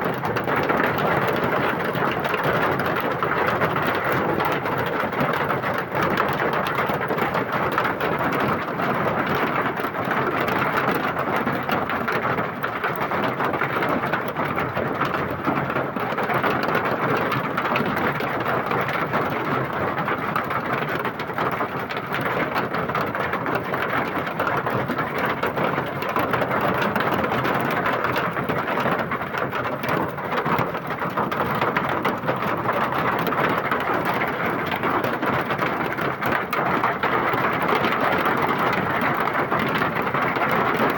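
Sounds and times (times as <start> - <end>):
rain and hail clattering: 0.1 - 40.9.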